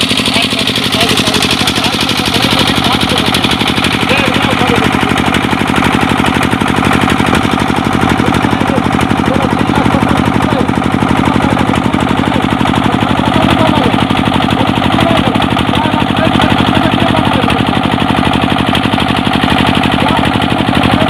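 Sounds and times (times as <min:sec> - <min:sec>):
boat engine knocking steadily: 0:00.0 - 0:21.0.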